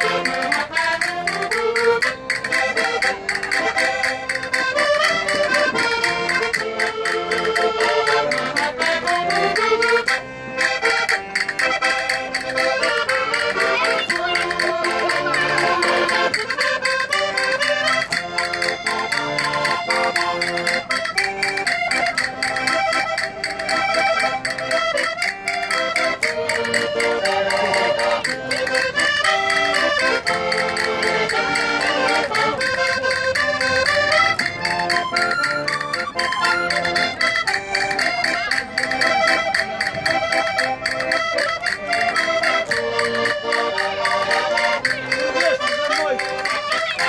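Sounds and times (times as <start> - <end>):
button accordion folk melody: 0.0 - 47.0.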